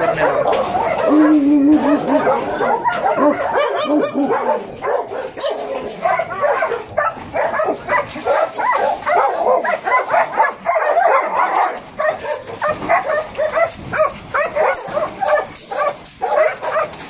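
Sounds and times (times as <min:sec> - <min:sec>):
dogs barking and yelping: 0:00.0 - 0:17.0.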